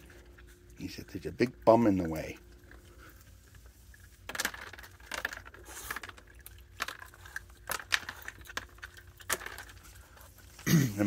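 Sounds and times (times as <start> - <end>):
animals crunching seeds: 0.0 - 11.0.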